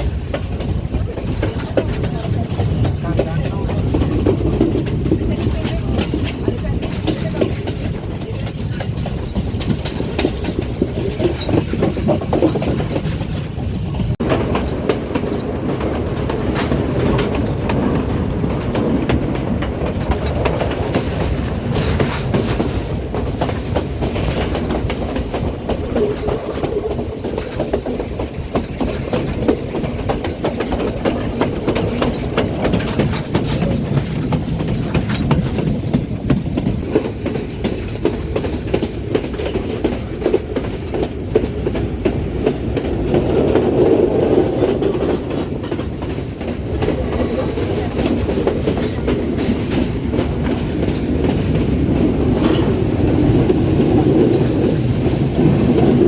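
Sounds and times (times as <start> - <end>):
train carriages rumbling: 0.0 - 56.0
wheels clattering over rail joints: 0.0 - 56.0.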